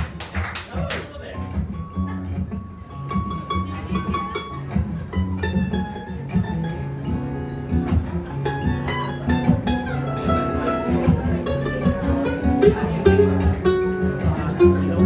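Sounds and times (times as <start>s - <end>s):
acoustic guitar melody: 1.3s - 15.0s.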